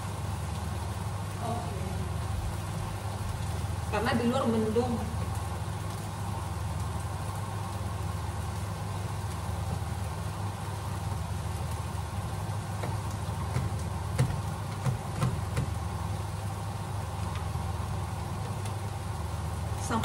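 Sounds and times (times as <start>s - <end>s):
low kitchen hum: 0.0s - 20.0s.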